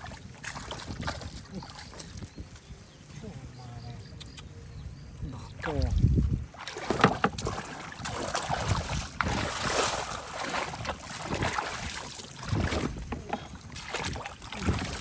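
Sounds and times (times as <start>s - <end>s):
water splashing and sloshing: 0.0s - 2.6s, 5.5s - 15.0s.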